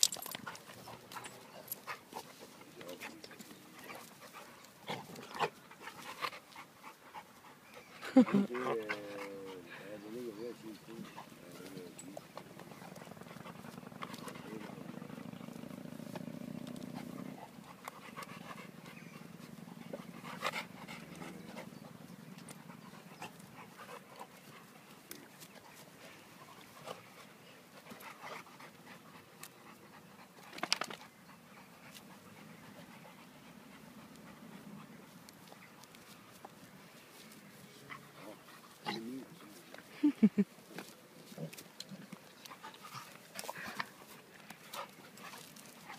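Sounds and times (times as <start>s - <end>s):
dogs panting: 0.0s - 45.9s.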